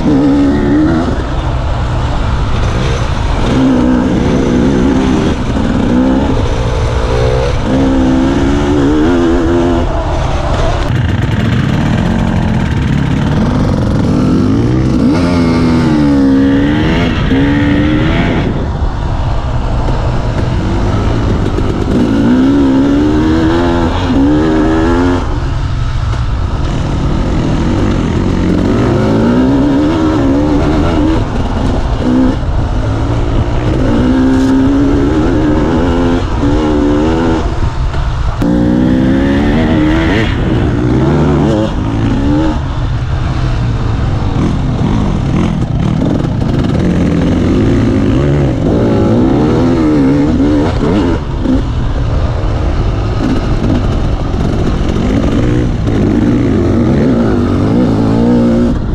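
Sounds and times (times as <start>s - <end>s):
dirt bike engine revving: 0.0s - 58.9s
wind rumble on microphone: 0.0s - 58.9s.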